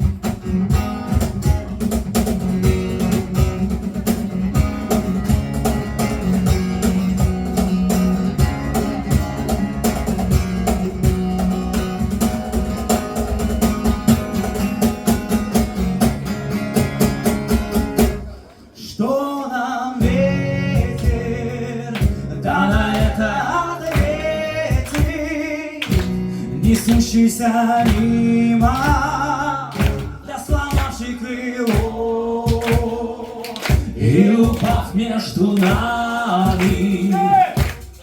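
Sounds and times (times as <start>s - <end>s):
steady cajon beat: 0.0s - 18.8s, 20.0s - 38.0s
acoustic guitars strummed and plucked: 0.0s - 38.0s.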